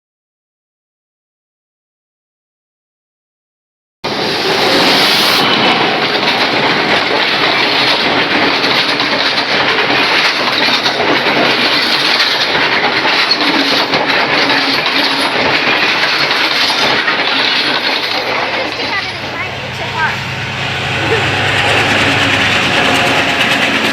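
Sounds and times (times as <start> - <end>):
train wheels rolling on rails: 4.1 - 23.9.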